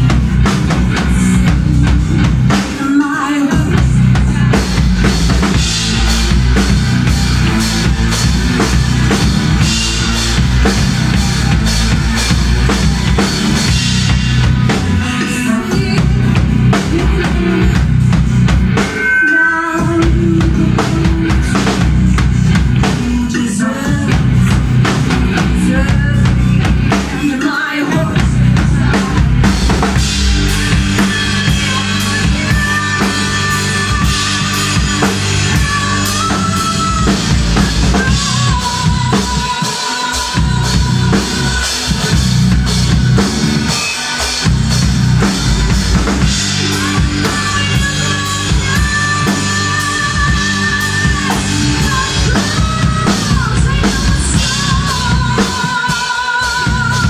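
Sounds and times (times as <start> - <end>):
bass guitar: 0.0 - 57.0
drum kit: 0.0 - 57.0
live rock band playing: 0.0 - 57.0.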